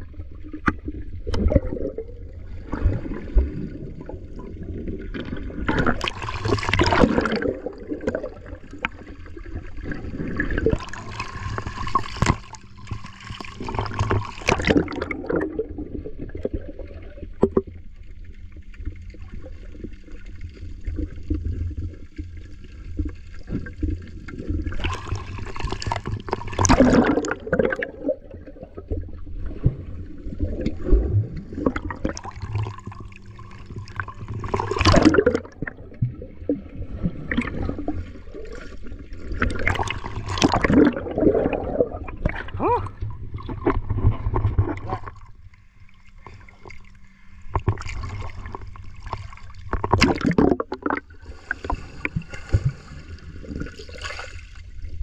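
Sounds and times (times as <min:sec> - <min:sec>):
bubbling and rushing water: 0:00.0 - 0:55.0
water gurgling underwater: 0:00.0 - 0:55.0.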